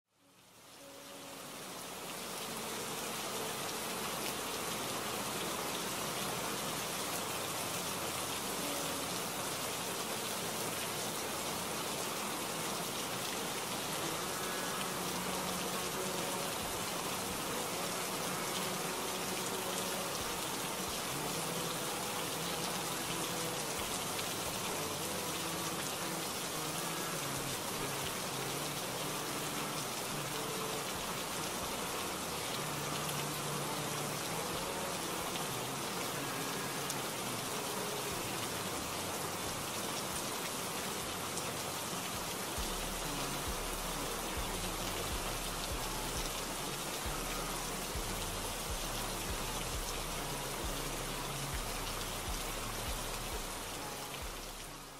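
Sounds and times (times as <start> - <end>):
steady rain: 0.1 - 54.9
faint slowed-down pop song: 2.5 - 54.9.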